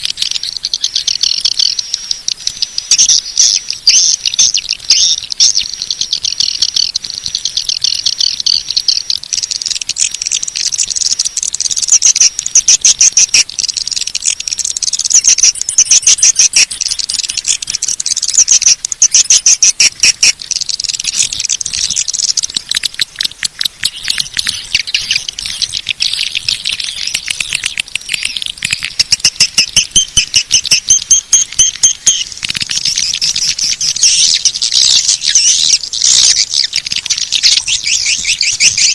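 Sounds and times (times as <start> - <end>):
high twittering bird chatter: 0.0 - 38.9
rapid pulsing clicks: 0.0 - 38.9.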